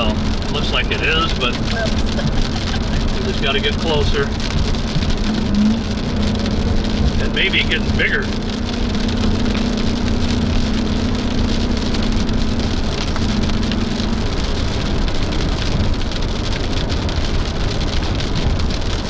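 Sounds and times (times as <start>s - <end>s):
heavy rain on a car: 0.0s - 19.0s
road and engine noise: 0.0s - 19.0s.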